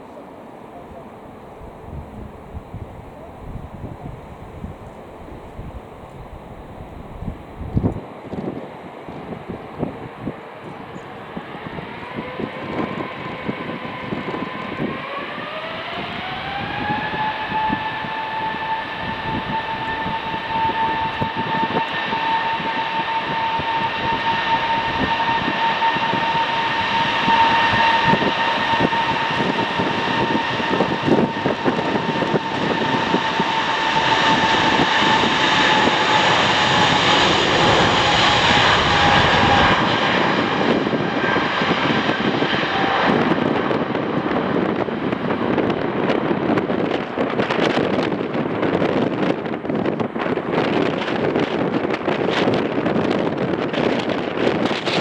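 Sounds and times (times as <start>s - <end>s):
jet engines spooling up: 10.3s - 55.0s.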